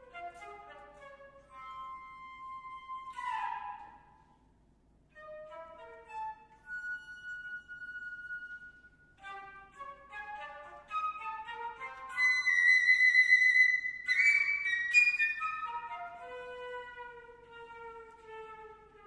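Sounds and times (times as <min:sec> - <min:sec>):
concert flute: 0:00.0 - 0:04.5, 0:05.1 - 0:19.0.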